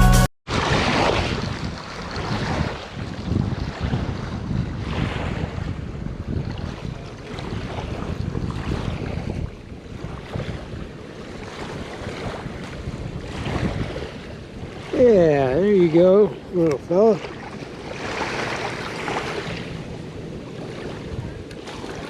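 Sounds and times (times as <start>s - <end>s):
wind buffeting microphone: 0.5s - 22.0s.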